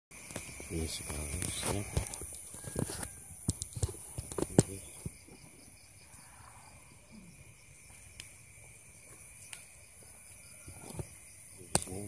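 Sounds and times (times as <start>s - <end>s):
night insects trilling: 0.1s - 12.0s.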